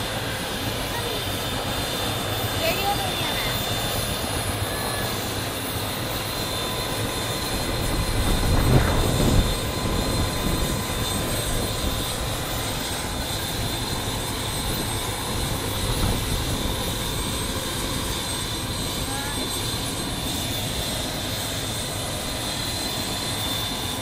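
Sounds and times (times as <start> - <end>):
helicopter idling: 0.0 - 24.0.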